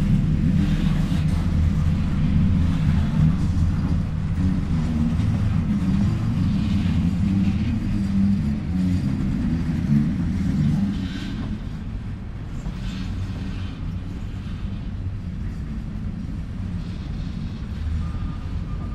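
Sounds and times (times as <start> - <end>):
train rolling past: 0.0 - 18.9.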